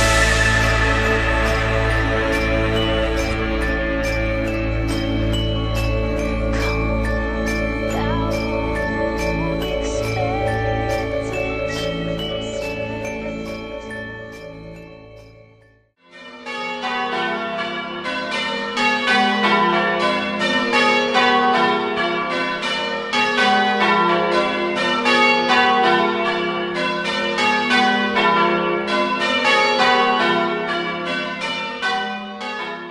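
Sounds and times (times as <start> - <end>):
church bells ringing: 0.0 - 32.9.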